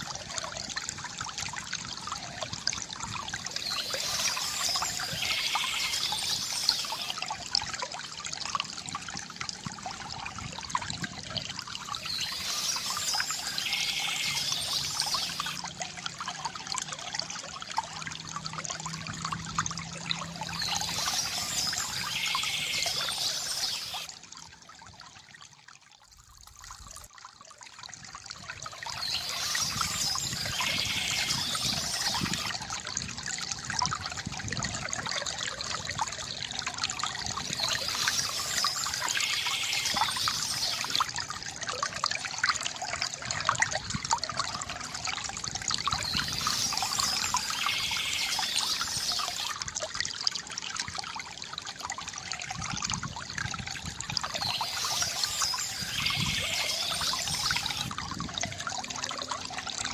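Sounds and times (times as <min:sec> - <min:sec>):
water pouring from bamboo fountain: 0:00.0 - 0:59.9.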